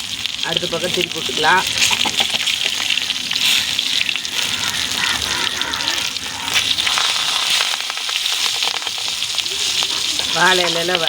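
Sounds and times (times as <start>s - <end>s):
fish frying in oil: 0.0s - 11.0s.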